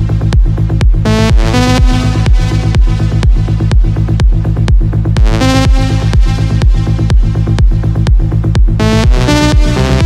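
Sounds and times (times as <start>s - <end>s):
electronic dance music: 0.0s - 10.0s
kick drum: 0.0s - 10.0s.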